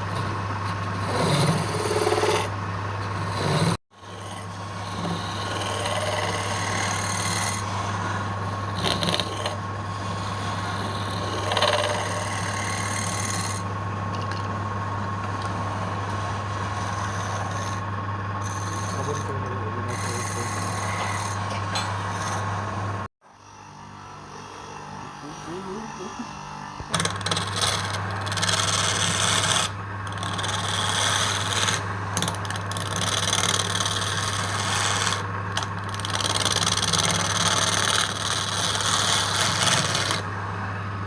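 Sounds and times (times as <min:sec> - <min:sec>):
tool scraping spinning wood: 0:00.0 - 0:23.1, 0:24.3 - 0:40.8
wood lathe motor hum: 0:00.0 - 0:41.0.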